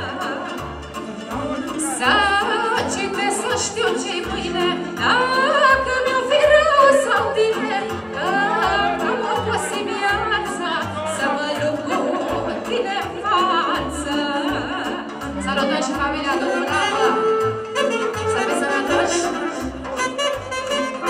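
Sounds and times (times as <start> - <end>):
woman singing into microphone: 0.0 - 19.8.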